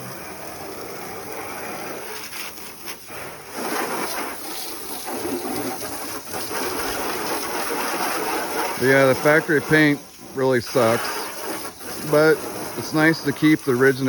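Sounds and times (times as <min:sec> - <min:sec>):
water spraying onto car: 0:00.0 - 0:14.0.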